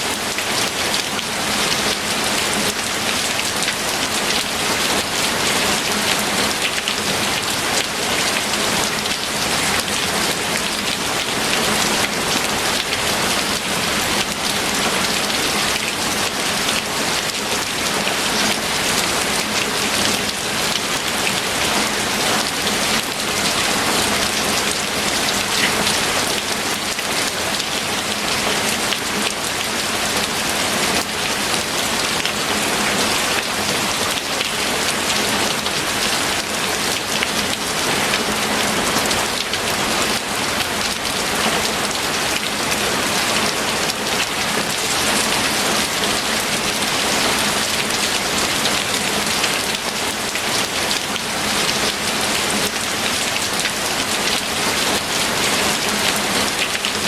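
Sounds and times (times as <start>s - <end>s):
heavy rain on a surface: 0.0s - 57.0s.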